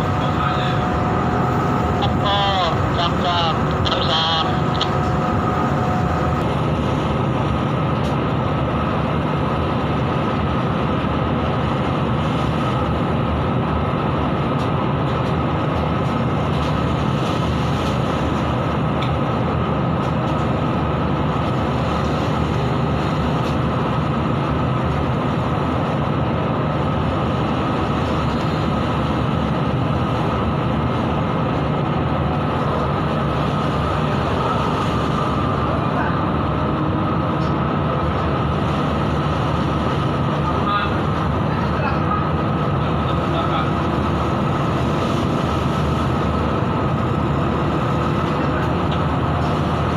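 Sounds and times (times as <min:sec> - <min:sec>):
heavy sea breaking: 0:00.0 - 0:49.9
ship engines droning: 0:00.0 - 0:49.9.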